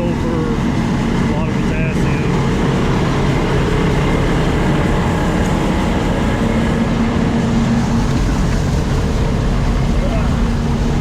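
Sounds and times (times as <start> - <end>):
farm machinery rumbling: 0.0 - 11.0
steady hum: 0.0 - 11.0.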